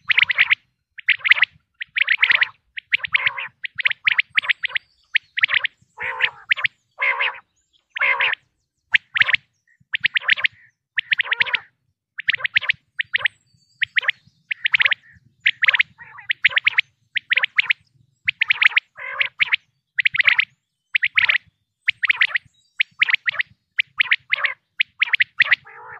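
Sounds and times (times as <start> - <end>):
quail calling sharp chirps: 0.0 - 25.9.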